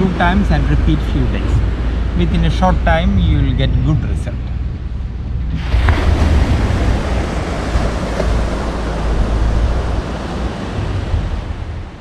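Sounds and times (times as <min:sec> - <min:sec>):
loud rushing noise with rumble: 0:00.0 - 0:12.0.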